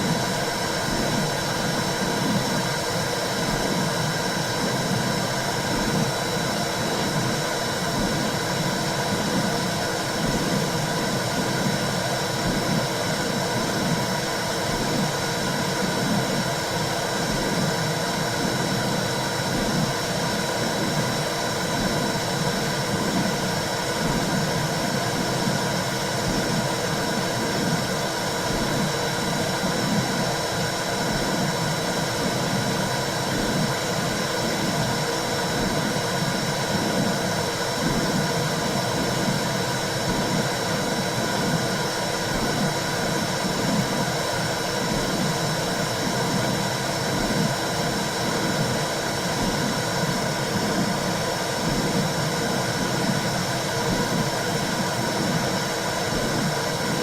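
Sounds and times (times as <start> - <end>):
low rhythmic whooshing pulse: 0.0 - 57.0.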